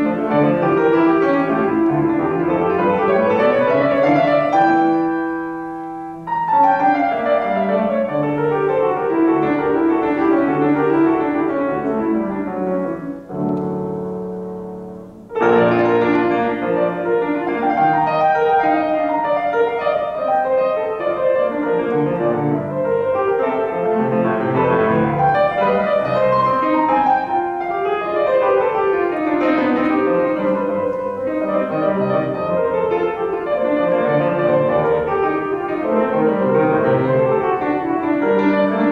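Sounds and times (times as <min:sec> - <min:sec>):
classical solo piano: 0:00.0 - 0:38.9.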